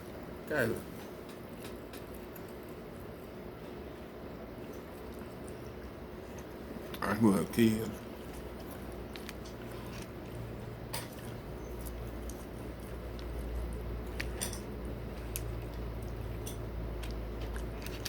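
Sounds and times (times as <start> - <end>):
person chewing food: 0.0 - 7.1, 7.9 - 18.0
steady low hum: 0.0 - 18.0.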